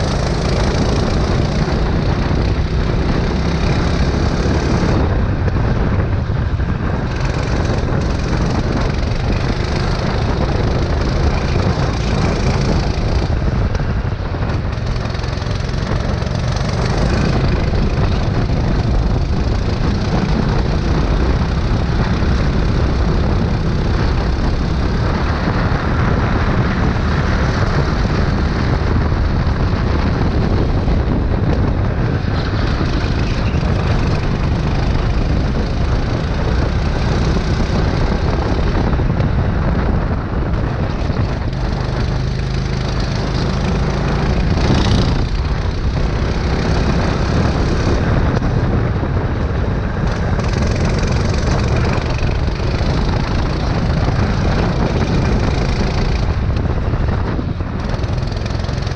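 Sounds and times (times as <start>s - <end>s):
go-kart engine running: 0.0s - 58.9s
wind and track noise: 0.0s - 58.9s.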